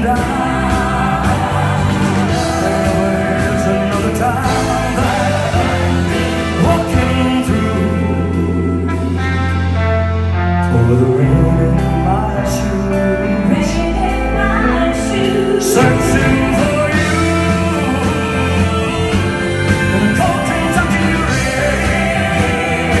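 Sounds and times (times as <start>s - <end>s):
person singing: 0.0s - 9.6s, 10.4s - 23.0s
band playing country-rock ballad: 0.0s - 23.0s.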